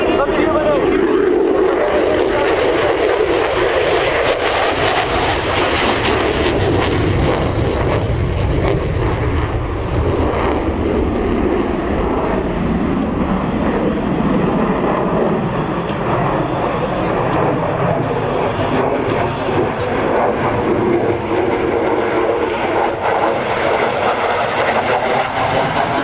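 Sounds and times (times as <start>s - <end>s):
jet aircraft roar: 0.0s - 26.0s.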